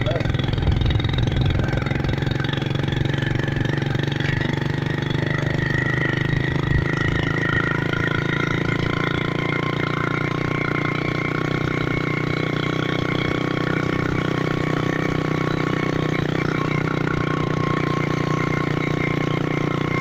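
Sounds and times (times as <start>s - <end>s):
constant high whine: 0.0s - 20.0s
motorcycle engine running: 0.0s - 20.0s.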